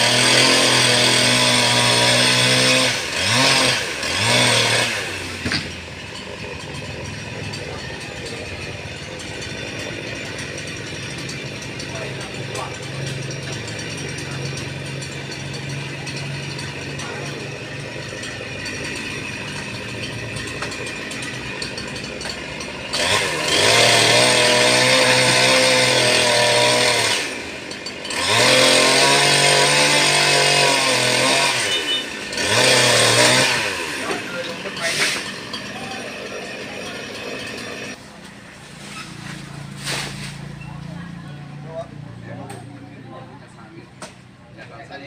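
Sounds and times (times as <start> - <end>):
chainsaw idling and revving: 0.0 - 45.0.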